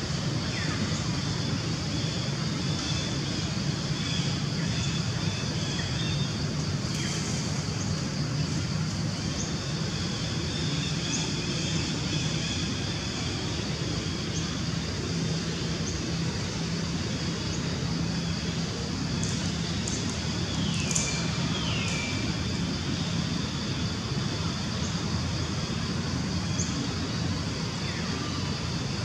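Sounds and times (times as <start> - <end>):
constant low hum: 0.0 - 29.0.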